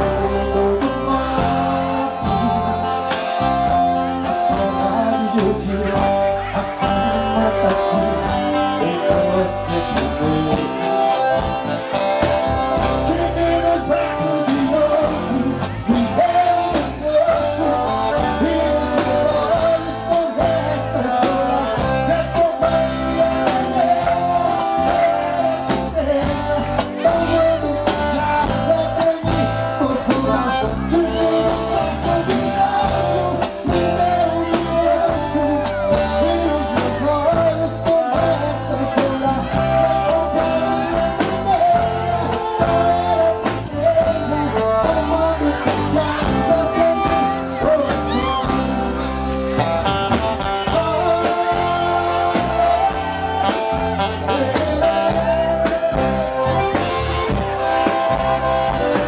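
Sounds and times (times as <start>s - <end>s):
band playing with drums: 0.0s - 59.0s
man singing lead: 0.0s - 59.0s.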